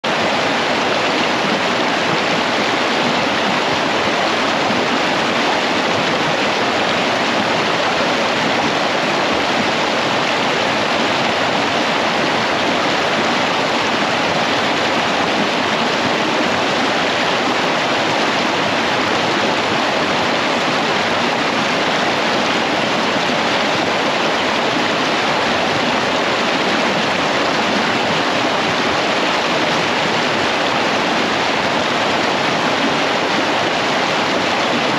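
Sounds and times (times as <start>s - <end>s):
creek water rushing over rocks: 0.0s - 34.9s.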